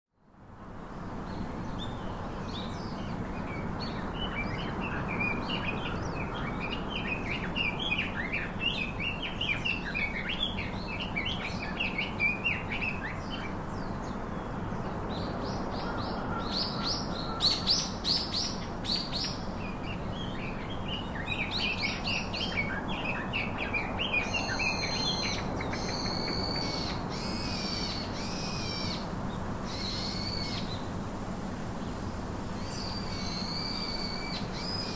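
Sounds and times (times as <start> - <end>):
small birds chirping: 1.2 - 31.0, 31.7 - 34.9.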